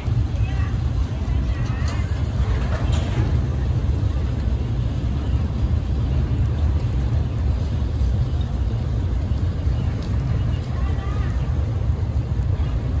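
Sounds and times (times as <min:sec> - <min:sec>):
distant locomotive engine rumble: 0:00.0 - 0:13.0.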